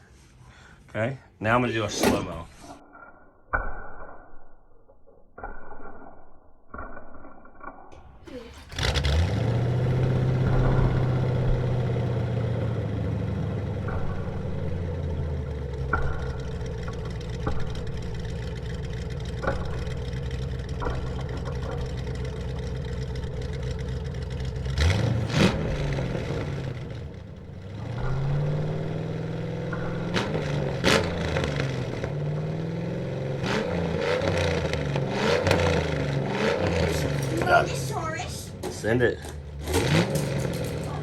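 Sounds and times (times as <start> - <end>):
engine idling and revving: 8.0 - 41.0
sharp clacks: 8.0 - 41.0.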